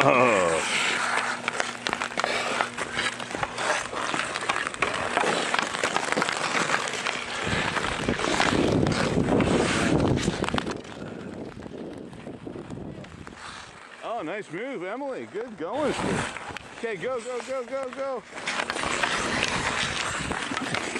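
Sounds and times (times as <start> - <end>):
hockey sticks clacking: 0.0 - 12.2, 15.2 - 20.9
ice skates scraping: 0.0 - 20.9.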